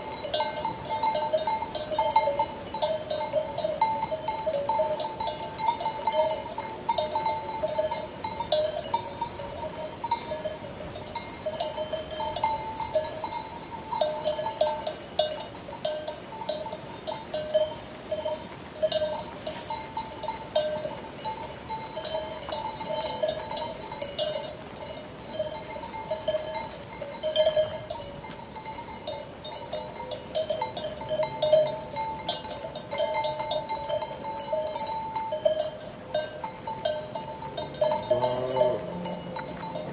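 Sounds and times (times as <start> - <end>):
sheep bells clanking: 0.0 - 39.9.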